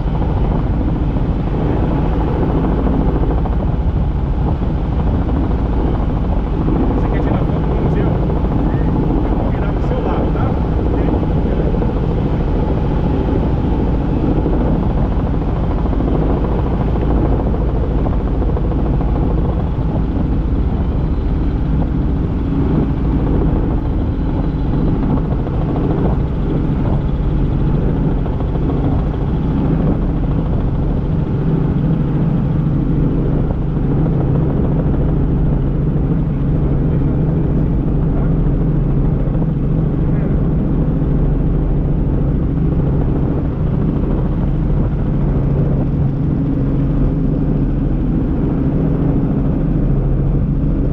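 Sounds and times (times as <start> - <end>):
helicopter engine and rotor drone: 0.0 - 50.9.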